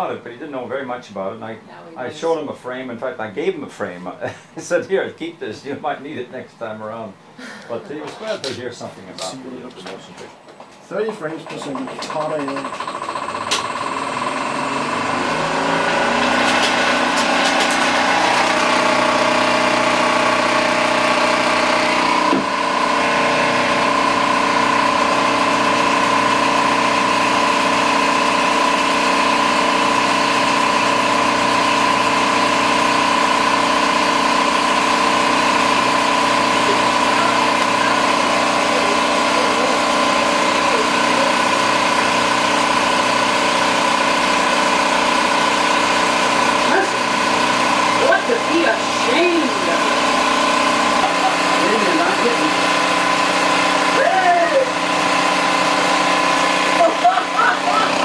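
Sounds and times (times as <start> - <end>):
film projector mechanical hum: 0.0 - 58.0.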